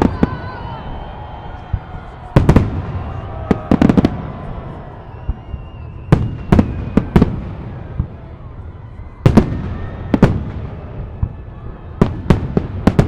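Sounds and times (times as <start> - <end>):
fireworks bursting in sharp bangs: 0.0 - 8.4, 9.1 - 13.0
crowd noise: 0.0 - 13.0.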